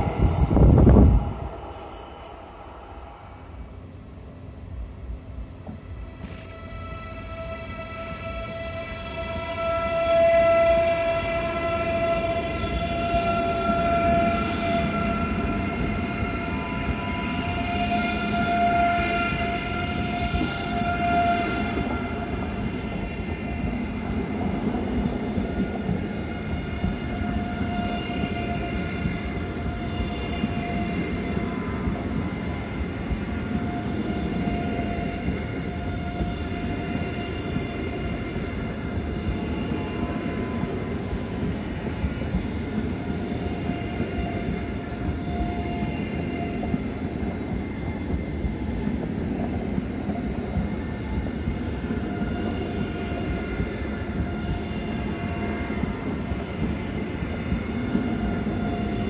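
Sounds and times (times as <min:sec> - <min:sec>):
high-pitched train tone: 0:00.0 - 0:59.0
train rumbling by: 0:00.0 - 0:59.0.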